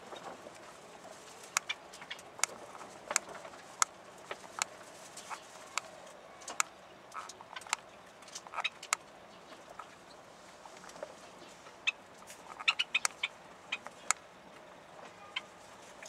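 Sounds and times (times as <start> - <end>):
caged birds chirping: 0.0 - 16.0.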